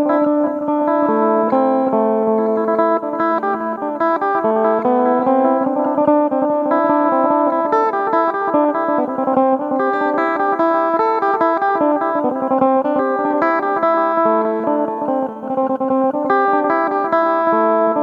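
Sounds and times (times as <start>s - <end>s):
electric plucked lute melody: 0.0s - 18.0s.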